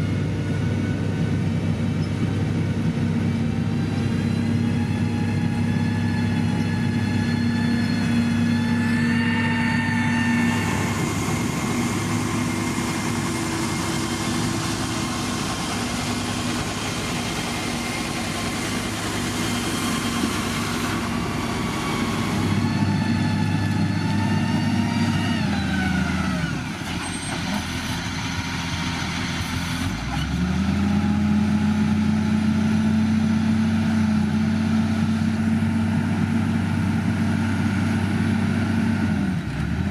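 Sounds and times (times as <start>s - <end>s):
construction machinery diesel engine: 0.0s - 39.9s.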